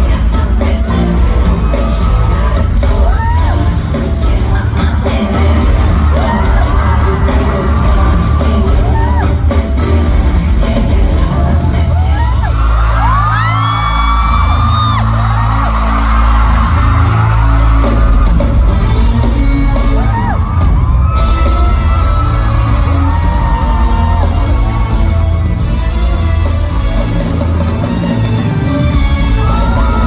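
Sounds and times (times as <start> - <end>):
fans screaming: 0.0 - 30.0
live pop music with heavy bass: 0.0 - 30.0.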